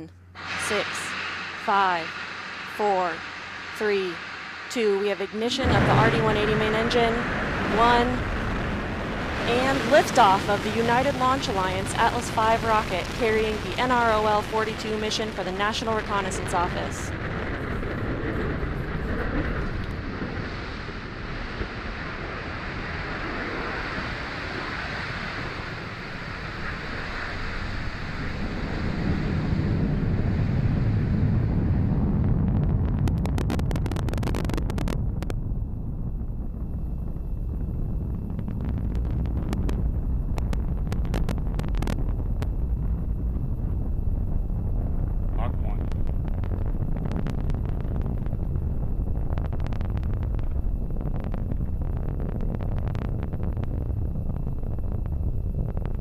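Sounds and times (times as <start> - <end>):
rocket engine rumbling roar: 0.0 - 56.0
sharp crackles: 0.0 - 56.0.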